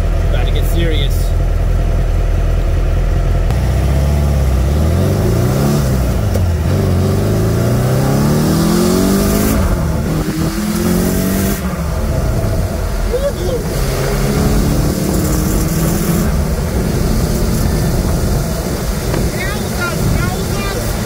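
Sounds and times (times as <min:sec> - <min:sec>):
car engine accelerating hard: 0:03.2 - 0:21.0.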